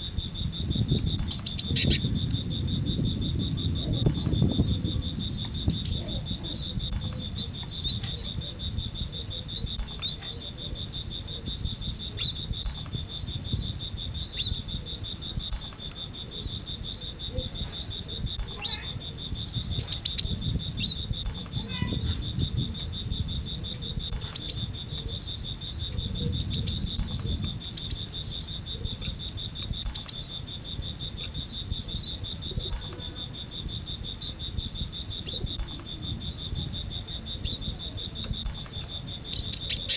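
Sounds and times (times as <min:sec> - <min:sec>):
high insect buzz: 0:00.0 - 0:39.9.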